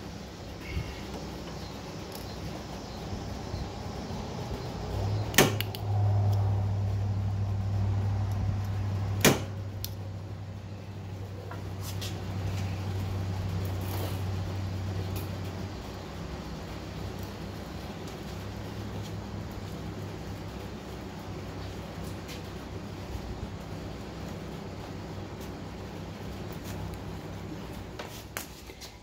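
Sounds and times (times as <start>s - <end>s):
generator electrical part humming: 0.0s - 29.0s.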